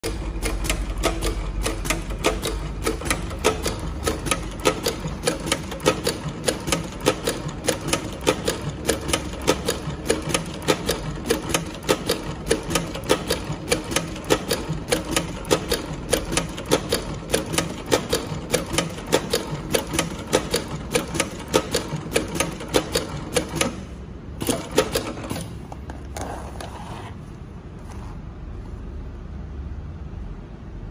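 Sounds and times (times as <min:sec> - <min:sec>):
sewing machine needle clicking: 0:00.0 - 0:25.6.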